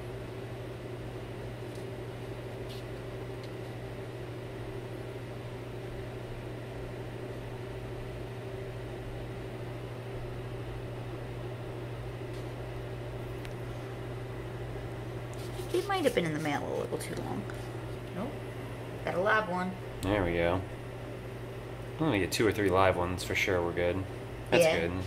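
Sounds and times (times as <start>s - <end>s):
low machine hum with hiss: 0.0s - 25.0s.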